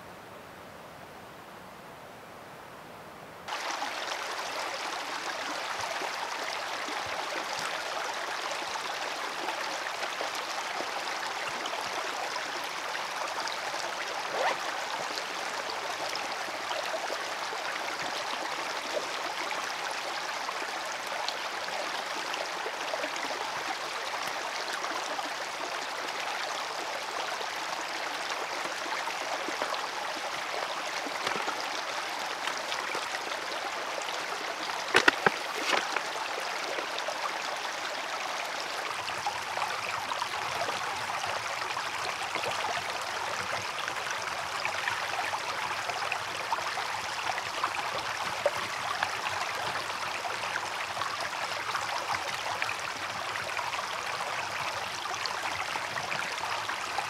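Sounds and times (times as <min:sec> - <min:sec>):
stream babbling over stones: 0:03.5 - 0:57.0.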